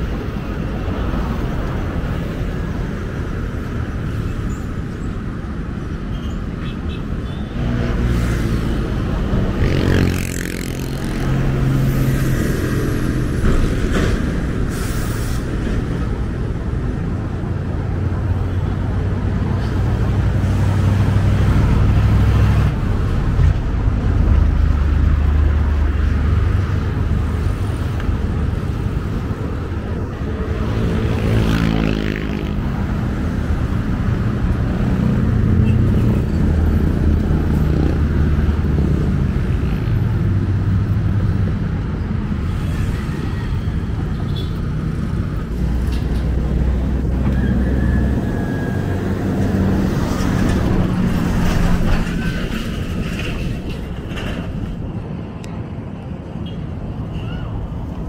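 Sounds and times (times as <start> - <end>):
vehicle engines rumbling: 0.0 - 58.0.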